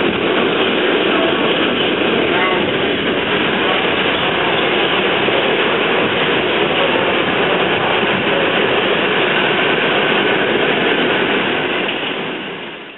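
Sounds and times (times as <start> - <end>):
subway car rumbling through tunnel: 0.0 - 12.9.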